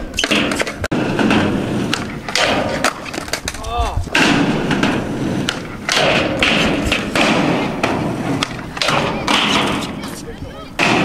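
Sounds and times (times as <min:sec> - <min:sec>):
skateboard thuds and knocks: 0:00.0 - 0:11.0
skateboard wheels rolling on concrete: 0:00.0 - 0:11.0.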